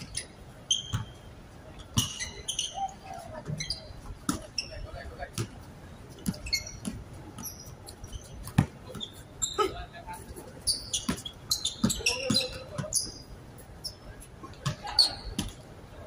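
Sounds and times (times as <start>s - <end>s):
sneakers squeaking: 0.0s - 16.0s.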